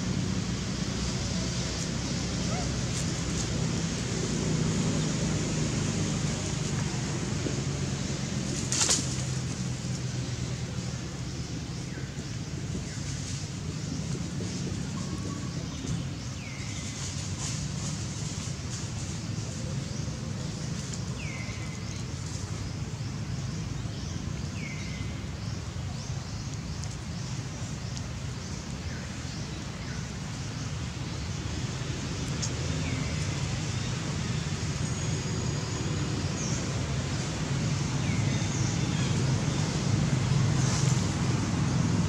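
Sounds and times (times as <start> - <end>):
low outdoor rumble: 0.0 - 42.0.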